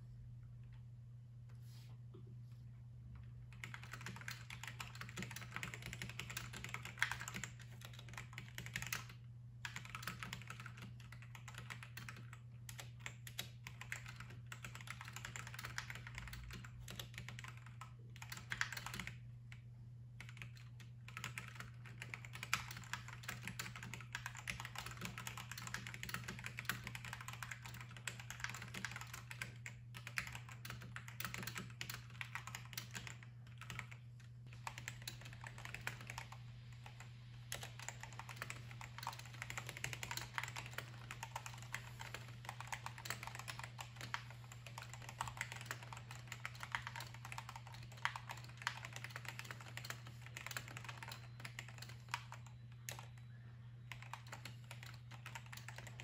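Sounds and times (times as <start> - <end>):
fast mechanical keyboard typing: 3.5 - 19.6, 20.2 - 53.2, 53.9 - 56.0.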